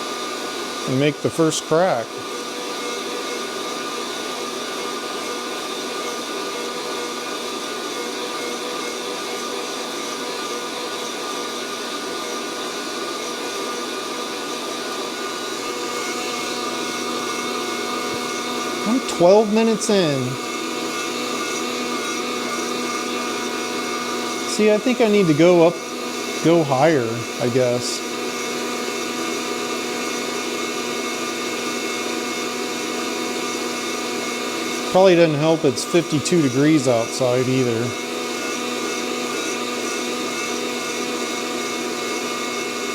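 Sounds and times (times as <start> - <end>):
coffee roaster fan humming: 0.0 - 10.9, 14.4 - 42.9.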